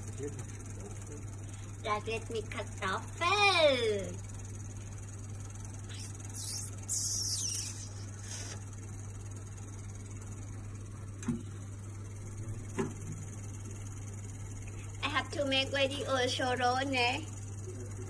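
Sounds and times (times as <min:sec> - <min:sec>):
electrical hum of grill: 0:00.0 - 0:18.0.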